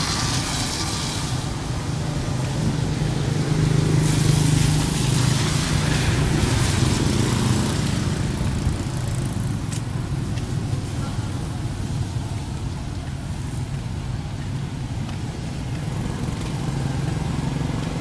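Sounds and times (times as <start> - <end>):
hiss of wet street: 0.0 - 18.0.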